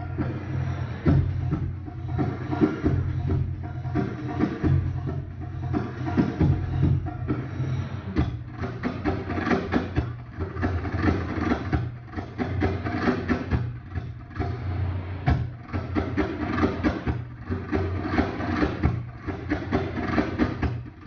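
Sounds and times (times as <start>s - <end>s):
belly dance music with drums: 0.0s - 21.0s.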